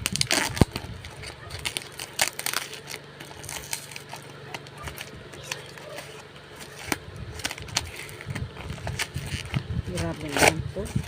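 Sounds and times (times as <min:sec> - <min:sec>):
cardboard parcel being opened: 0:00.0 - 0:11.0.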